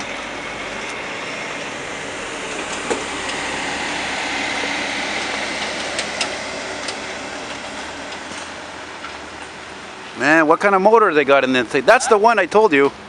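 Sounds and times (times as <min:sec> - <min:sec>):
wheels clunking over rails: 0:00.0 - 0:11.0
bus engine running: 0:00.0 - 0:13.0.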